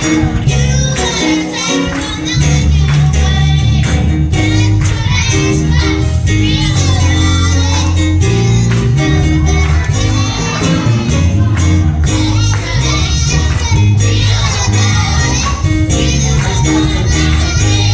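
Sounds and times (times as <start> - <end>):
gospel worship song with band: 0.0 - 17.9.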